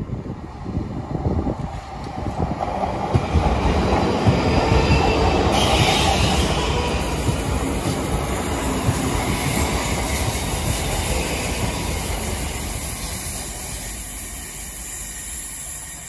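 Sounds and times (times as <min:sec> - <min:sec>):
train rumble and wheel noise: 0:00.0 - 0:16.0.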